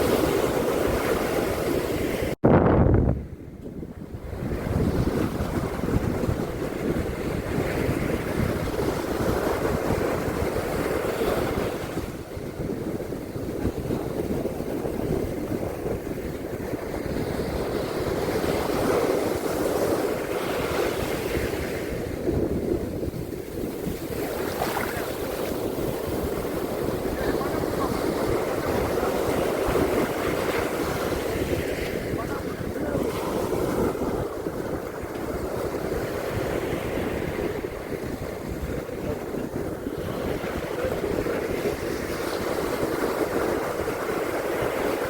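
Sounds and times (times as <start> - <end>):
wind rumble on microphone: 0.0 - 45.0
ocean waves washing in: 4.0 - 45.0.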